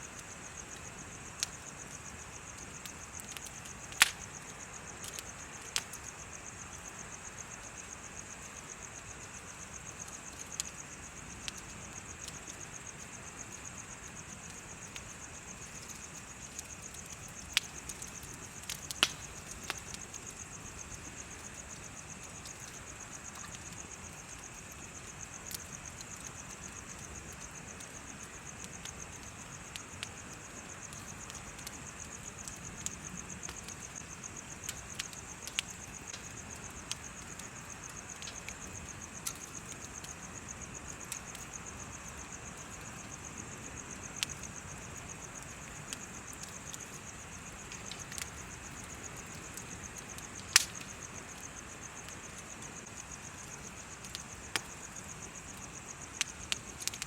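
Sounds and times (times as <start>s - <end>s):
bonfire crackling: 0.0s - 57.0s
insects chirping: 0.0s - 57.0s.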